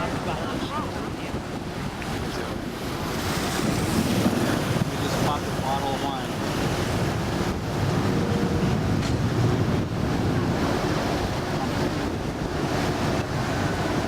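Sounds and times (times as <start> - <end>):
motorboat engine drone: 0.0 - 14.0
water rushing against hull: 0.0 - 14.0
wind buffeting microphone: 0.0 - 14.0.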